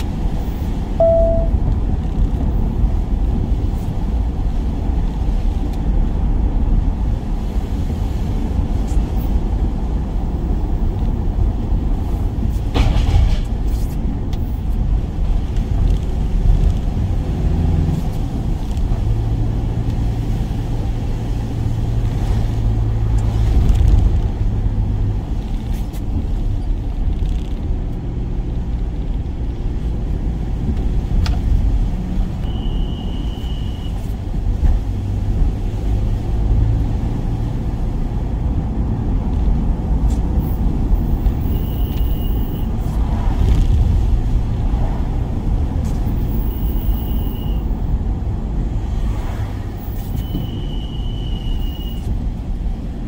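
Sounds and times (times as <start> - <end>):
van engine and road rumble: 0.0 - 53.0.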